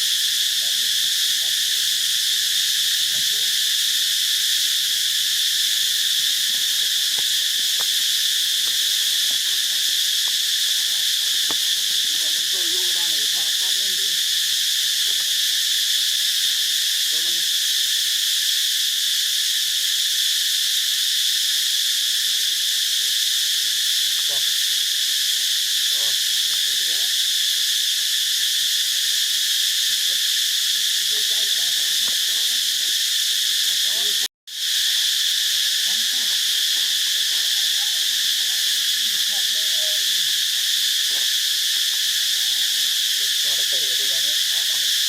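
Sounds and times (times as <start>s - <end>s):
insect chorus drone: 0.0s - 45.0s.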